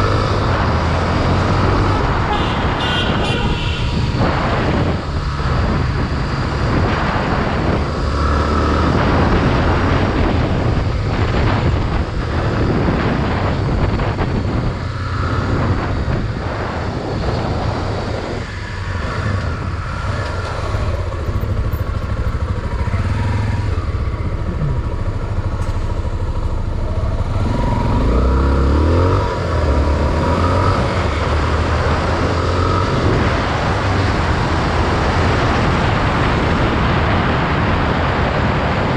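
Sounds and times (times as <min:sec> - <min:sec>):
motorcycle engine running: 0:00.0 - 0:36.1
wind noise: 0:00.0 - 0:38.9.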